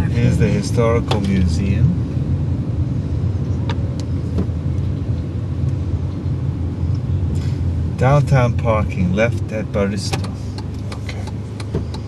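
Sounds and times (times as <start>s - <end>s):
car driving rumble inside cabin: 0.0s - 12.0s.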